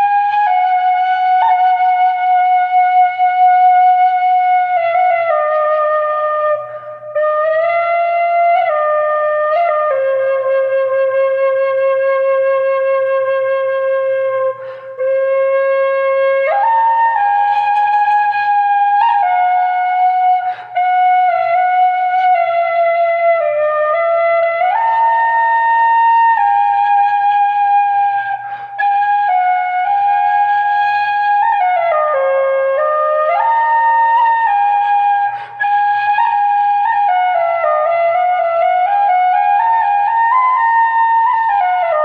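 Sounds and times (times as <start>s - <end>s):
solo flute melody: 0.0s - 42.0s.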